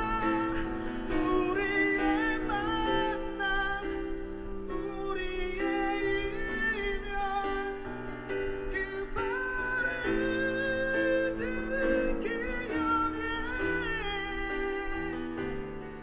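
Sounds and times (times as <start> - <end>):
keyboard chords: 0.0 - 16.0
man singing a slow ballad: 0.0 - 16.0.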